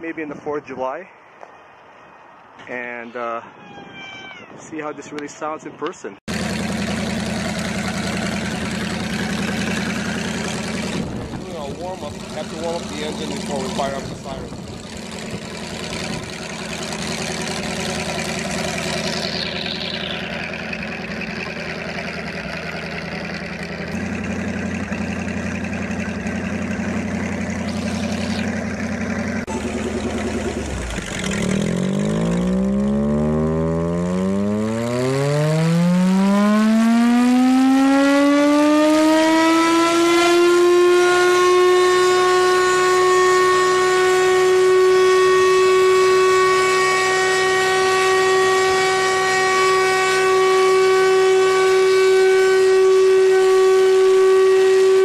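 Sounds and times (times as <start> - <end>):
air raid siren tone: 6.3 - 55.0
engine running: 6.3 - 55.0.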